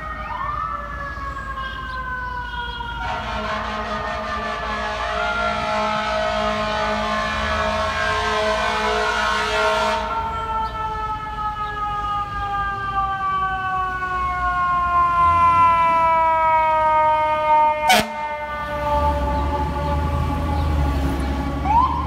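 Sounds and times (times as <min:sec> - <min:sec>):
fire truck siren: 0:00.0 - 0:22.0
traffic rumble: 0:00.0 - 0:22.0.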